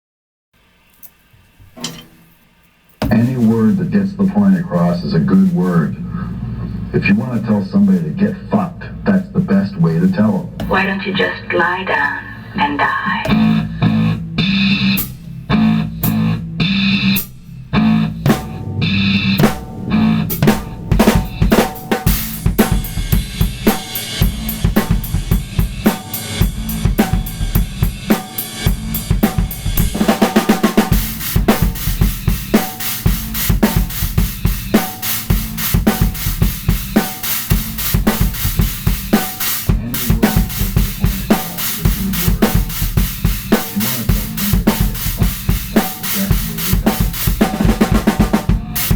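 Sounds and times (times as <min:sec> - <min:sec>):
recorded backing track: 0:01.6 - 0:48.9
drum kit playing: 0:01.7 - 0:02.4, 0:03.0 - 0:05.8, 0:09.2 - 0:12.0, 0:12.8 - 0:48.9.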